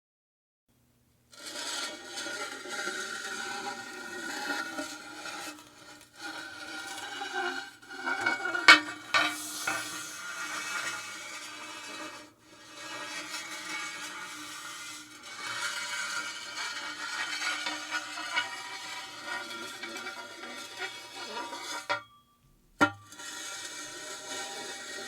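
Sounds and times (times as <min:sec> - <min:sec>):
metal rod scraping metal: 0:01.4 - 0:22.2, 0:22.8 - 0:25.0.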